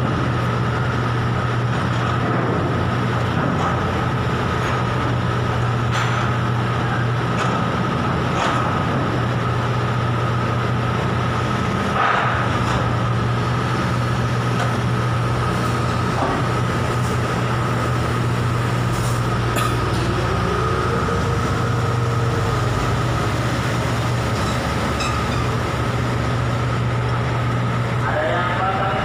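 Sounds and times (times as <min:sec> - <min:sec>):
crane machinery droning: 0:00.0 - 0:29.0.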